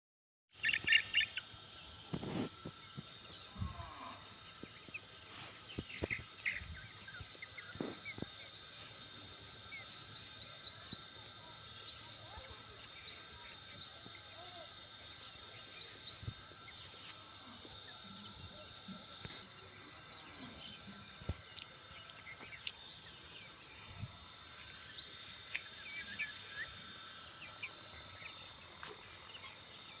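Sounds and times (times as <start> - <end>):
insects droning: 0.5 - 30.0.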